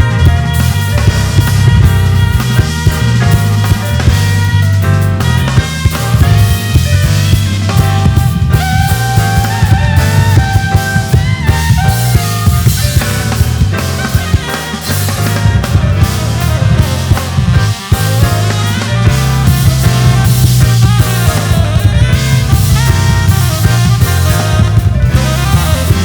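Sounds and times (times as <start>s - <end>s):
drum kit: 0.0s - 26.0s
heavy bass line: 0.0s - 26.0s
keyboards holding melody notes: 0.0s - 26.0s.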